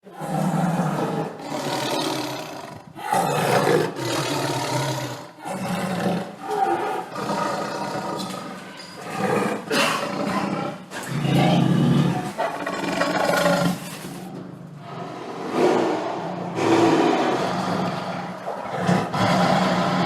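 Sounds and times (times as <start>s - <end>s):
tiger roaring: 0.0s - 20.0s.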